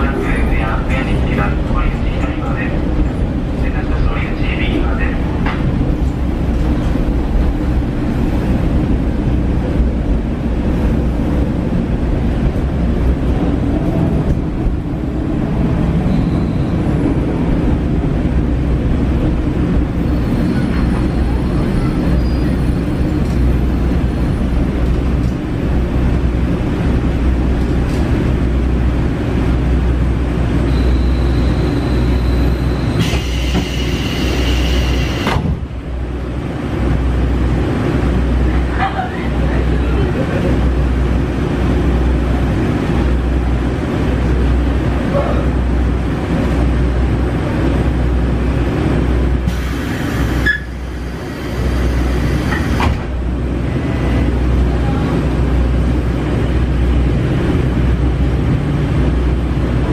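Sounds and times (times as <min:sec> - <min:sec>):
diesel engine drone: 0:00.0 - 0:59.9
wheels rumbling on rails: 0:00.0 - 0:59.9.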